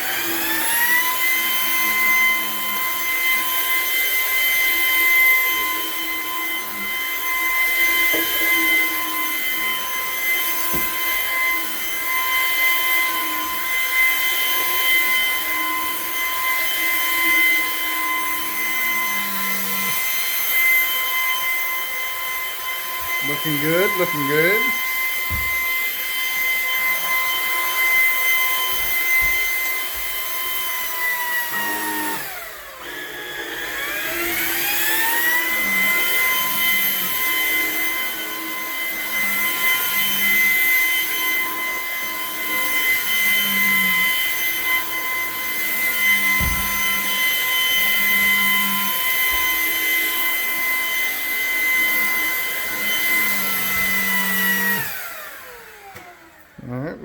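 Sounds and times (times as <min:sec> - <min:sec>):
vacuum cleaner motor whine: 0:00.0 - 0:56.9.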